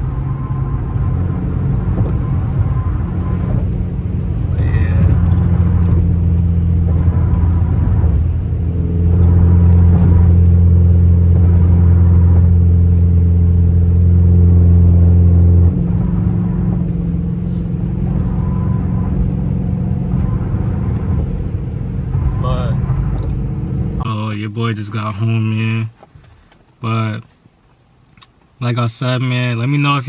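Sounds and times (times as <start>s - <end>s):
car exhaust drone: 0.0s - 24.1s
engine and road noise: 0.0s - 30.0s.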